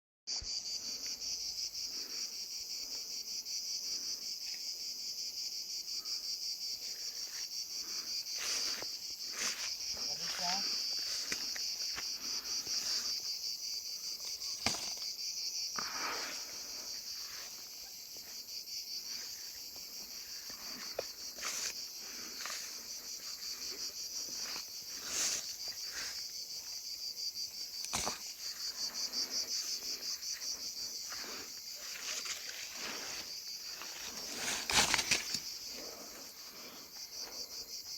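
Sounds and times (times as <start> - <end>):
insects chirring: 0.3 - 37.9.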